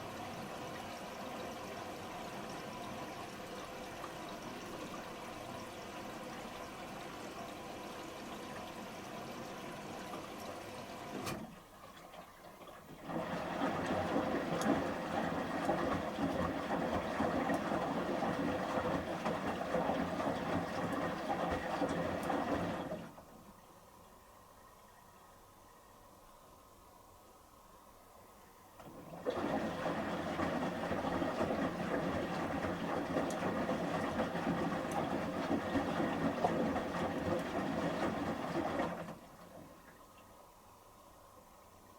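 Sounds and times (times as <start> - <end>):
water rushing into washing machine: 0.0 - 23.5, 28.8 - 40.0.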